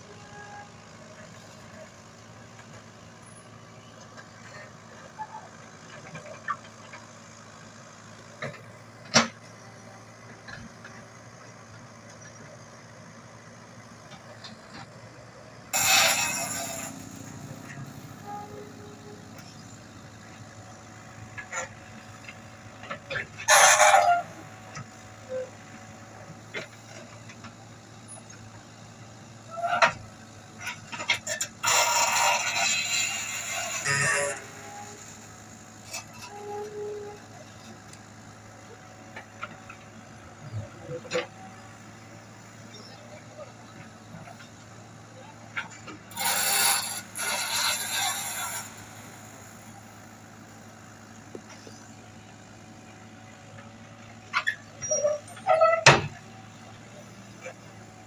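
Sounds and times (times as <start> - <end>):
diesel engine running low: 0.0 - 58.0.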